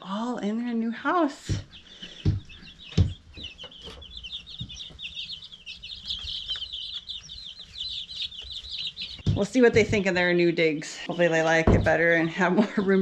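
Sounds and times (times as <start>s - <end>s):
baby chicks peeping: 1.1s - 13.0s.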